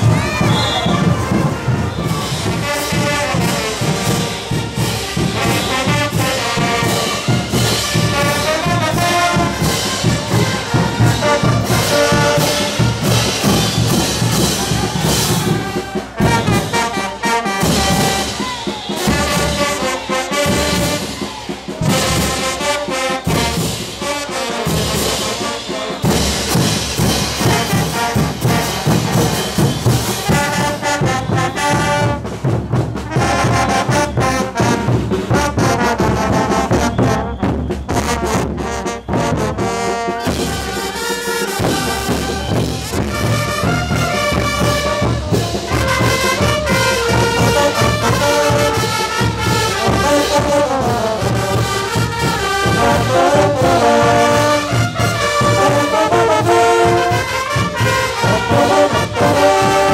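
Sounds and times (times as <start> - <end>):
bass drums: 0.0 - 16.7, 26.0 - 59.9
brass horns: 0.0 - 59.9.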